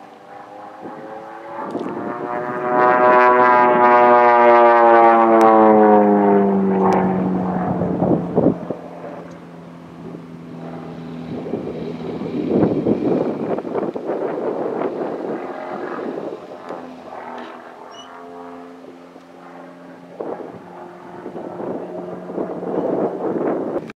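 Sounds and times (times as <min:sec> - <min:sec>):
plane piston engine droning: 0:00.0 - 0:23.9.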